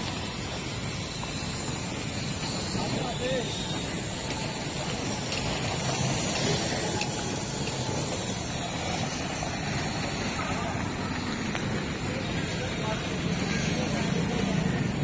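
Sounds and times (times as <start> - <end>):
auto-rickshaws driving past: 0.0 - 15.0
street traffic noise: 0.0 - 15.0.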